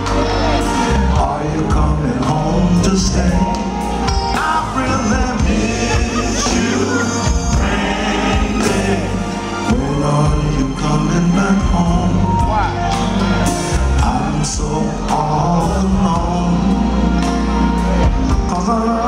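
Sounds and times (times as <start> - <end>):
live band playing: 0.0 - 19.0
man singing: 0.9 - 12.8, 13.8 - 17.3, 18.0 - 19.0.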